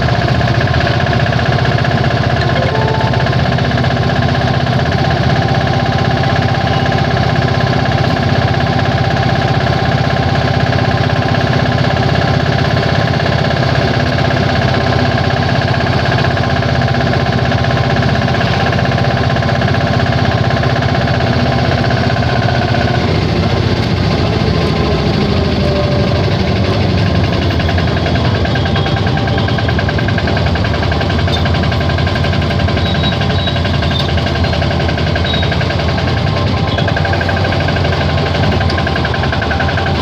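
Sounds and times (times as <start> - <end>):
auto rickshaw engine knocking: 0.0 - 40.0.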